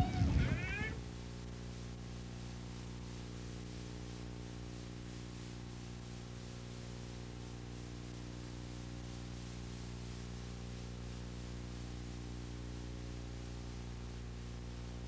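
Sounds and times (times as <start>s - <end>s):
faint hiss: 0.0s - 15.0s
steady electrical hum: 0.0s - 15.0s.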